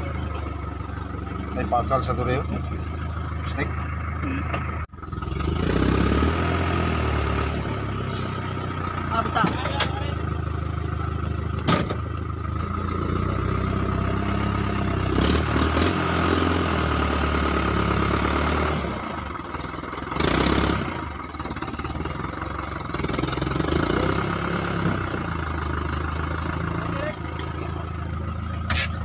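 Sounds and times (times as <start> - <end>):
truck engine idling: 0.0 - 5.6, 6.3 - 15.2, 16.2 - 29.0.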